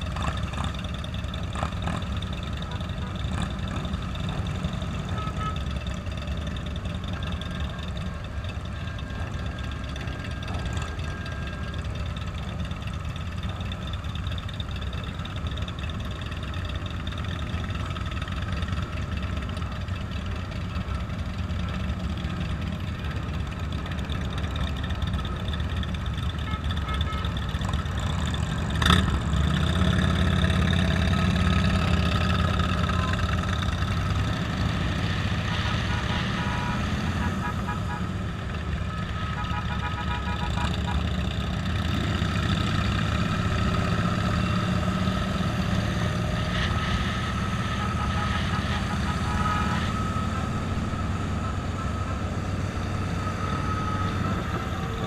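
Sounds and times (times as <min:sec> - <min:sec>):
motorcycle engines running: 0:00.0 - 0:55.0.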